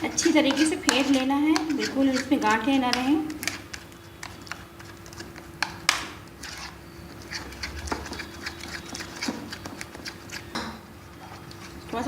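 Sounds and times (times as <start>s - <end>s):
spoon beating batter in bowl: 0.0s - 12.0s.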